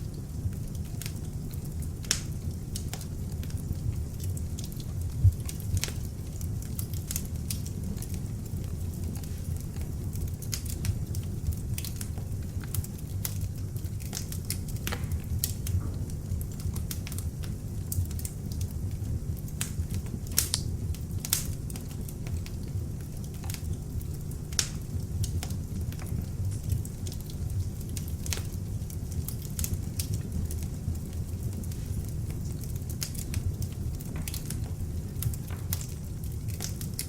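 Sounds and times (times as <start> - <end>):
low rumble of flames: 0.0 - 37.0
wood crackling and popping: 0.0 - 37.0.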